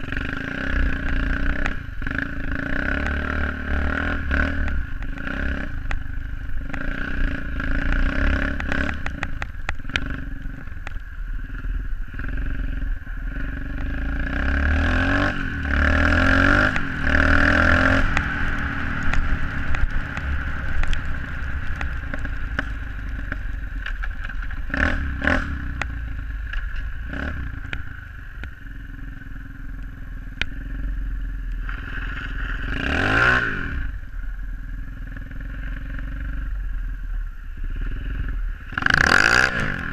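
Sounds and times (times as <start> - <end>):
pit bike engine running: 0.0 - 39.9.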